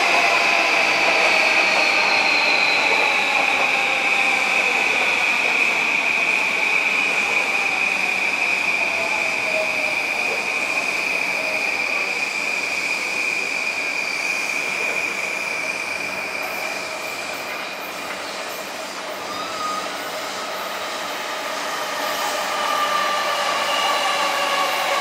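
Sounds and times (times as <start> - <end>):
train running noise: 0.0 - 25.0
train wheels squealing: 0.0 - 25.0.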